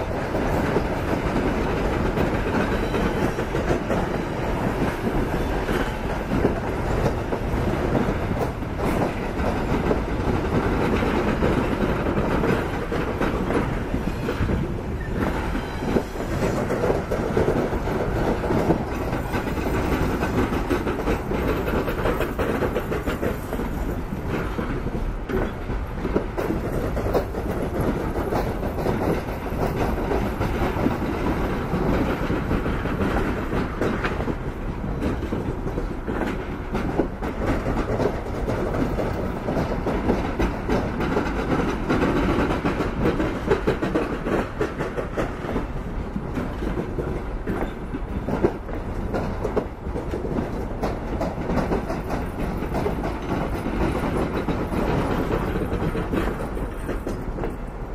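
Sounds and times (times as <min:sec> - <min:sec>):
rail joint clicks and knocks: 0:00.0 - 0:57.9
train wheels rumbling: 0:00.0 - 0:57.9.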